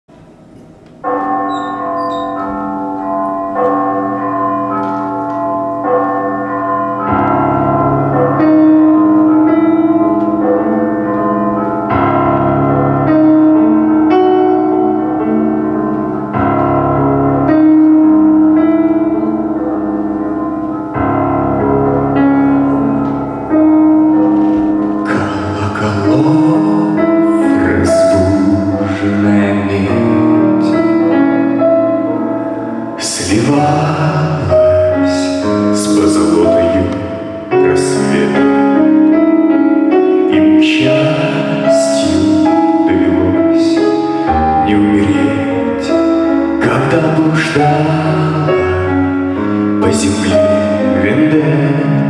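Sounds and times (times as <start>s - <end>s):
slow keyboard chords: 0.1s - 52.0s.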